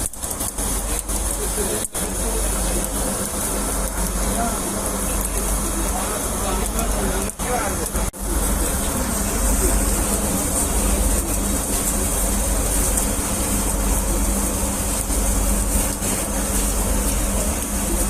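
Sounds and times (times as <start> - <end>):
mechanical hum with hiss: 0.0 - 18.0.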